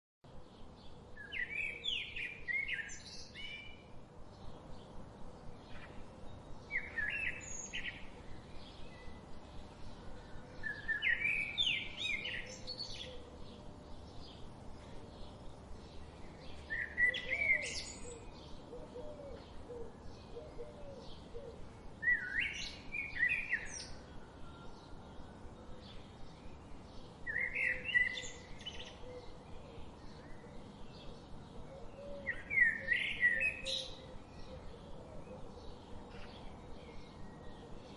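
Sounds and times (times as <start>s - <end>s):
loud warbled birdsong: 0.3s - 37.9s
steady background hiss: 0.3s - 37.9s
faint bird chirps: 1.2s - 37.9s.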